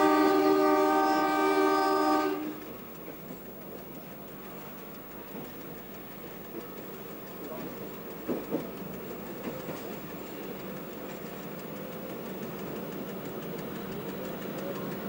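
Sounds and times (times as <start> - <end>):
railcar engine humming: 0.0 - 15.0
wheels clicking on track: 0.0 - 15.0.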